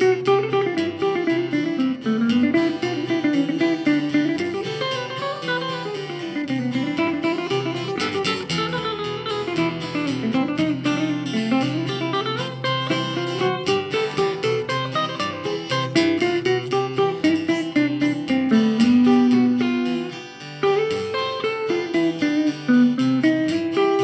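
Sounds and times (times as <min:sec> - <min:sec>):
two guitars playing: 0:00.0 - 0:24.0.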